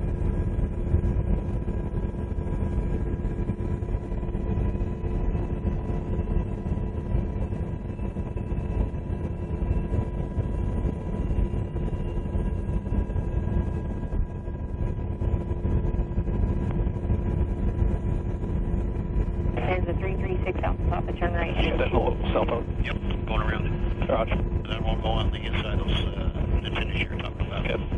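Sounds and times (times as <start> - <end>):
helicopter rotor rumble: 0.0 - 27.9
high engine whine: 0.0 - 27.9.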